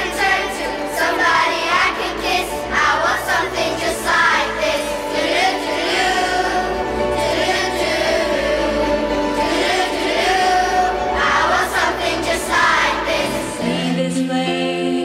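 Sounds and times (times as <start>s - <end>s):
children's choir singing: 0.0s - 15.0s
held instrumental notes: 0.0s - 15.0s
instrumental accompaniment: 0.0s - 15.0s.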